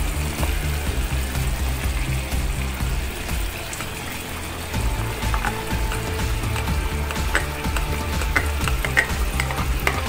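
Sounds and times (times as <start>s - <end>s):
background music: 0.0s - 10.0s
cream pouring into pan: 0.0s - 10.0s.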